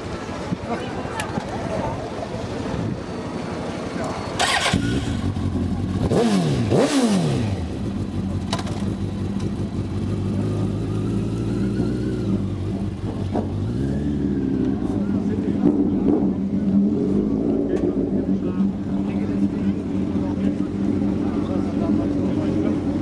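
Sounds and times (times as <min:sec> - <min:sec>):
motorcycle engine revving and idling: 0:03.8 - 0:23.0.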